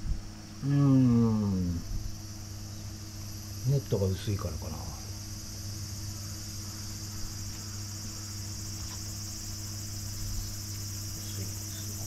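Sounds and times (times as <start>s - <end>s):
insect chorus buzzing: 0.0s - 12.0s
low electrical hum: 0.0s - 12.0s.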